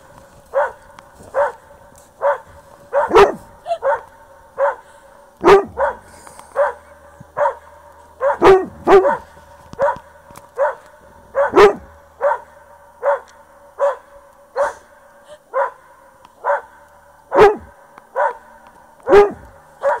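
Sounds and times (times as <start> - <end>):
dog barking: 0.5 - 14.9, 15.5 - 20.0
echo of barks: 0.5 - 14.9, 15.5 - 20.0.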